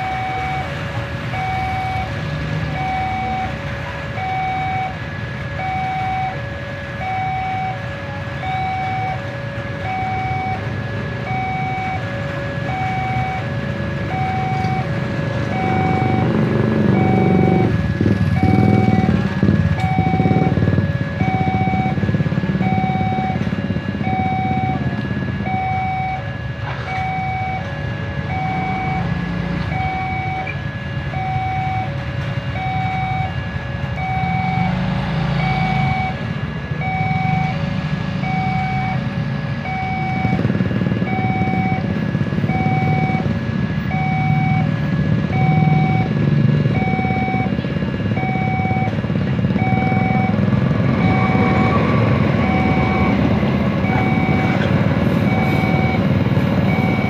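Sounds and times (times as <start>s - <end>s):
engines idling: 0.0s - 57.0s
level crossing alarm beeping: 0.0s - 57.0s
traffic noise: 0.0s - 57.0s.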